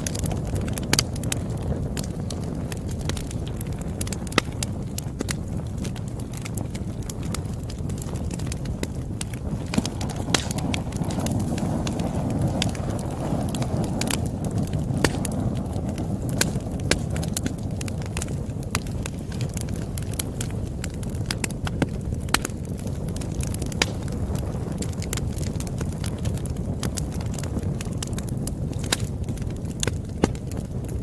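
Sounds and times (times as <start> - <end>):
campfire crackling and popping: 0.0 - 31.0
low rumble of burning: 0.0 - 31.0.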